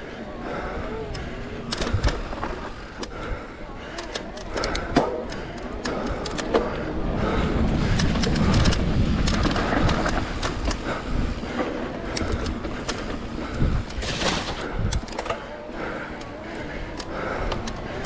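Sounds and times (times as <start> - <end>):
bike clacking and rattling: 0.0 - 18.0
tyres rumbling on dirt: 0.0 - 18.0.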